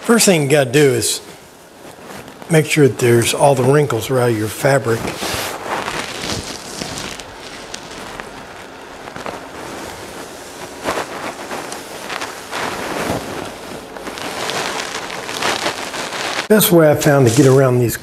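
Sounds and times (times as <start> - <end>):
iron swishing over fabric: 1.3 - 16.5.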